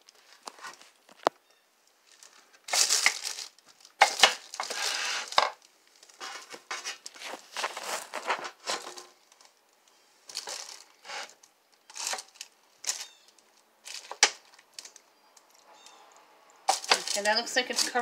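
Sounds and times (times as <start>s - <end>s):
plastic liner crinkling and scraping: 0.0s - 1.4s, 2.0s - 15.8s, 16.6s - 18.0s.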